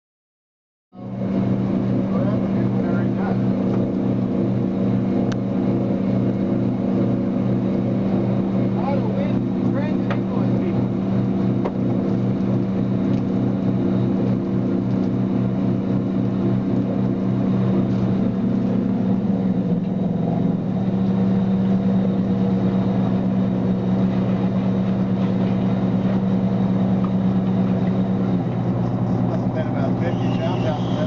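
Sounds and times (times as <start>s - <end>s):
boat engine running: 0.9s - 31.0s.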